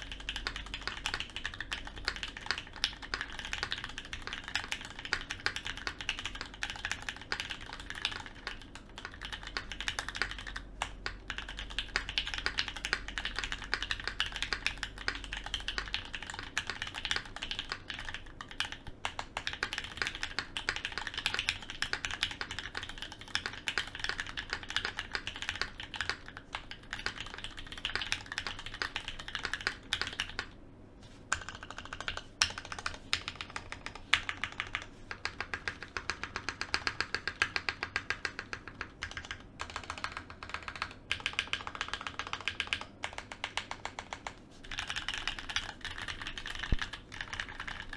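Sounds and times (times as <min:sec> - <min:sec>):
fast mechanical keyboard typing: 0:00.0 - 0:30.6, 0:31.3 - 0:47.9.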